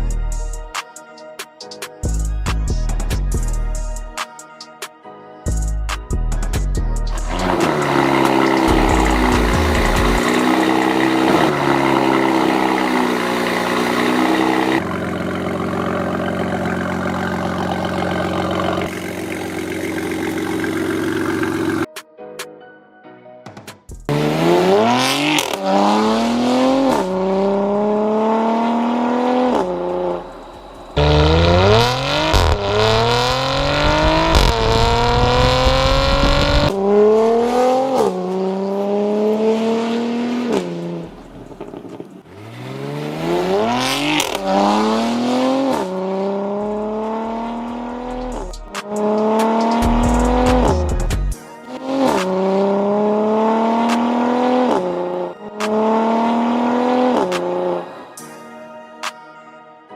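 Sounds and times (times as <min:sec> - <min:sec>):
car exhaust accelerating: 0:07.1 - 0:21.9, 0:24.1 - 0:57.8.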